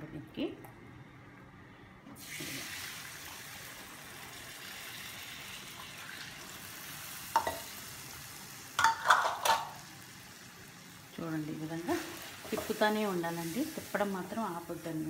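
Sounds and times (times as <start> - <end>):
milk sizzling in hot pan: 2.2 - 15.0.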